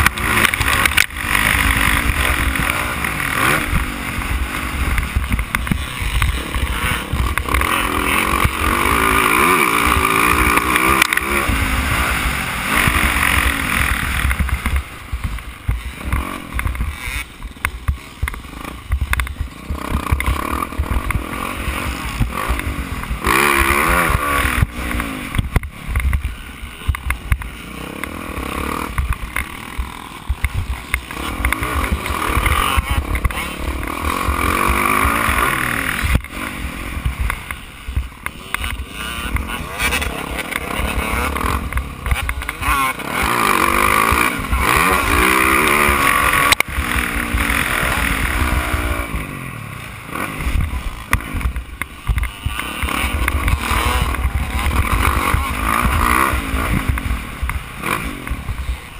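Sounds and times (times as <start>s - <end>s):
motorbike engine revving: 0.0s - 58.9s.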